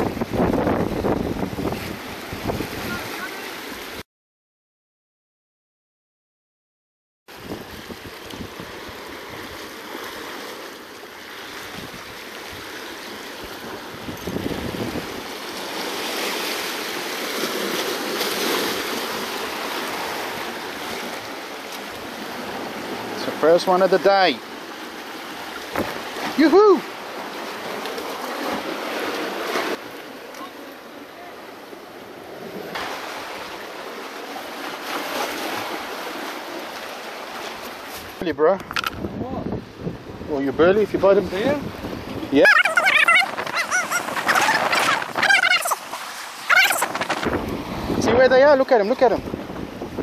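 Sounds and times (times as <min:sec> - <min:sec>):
sea waves washing over rocks: 0:00.0 - 0:04.0, 0:07.3 - 0:50.0.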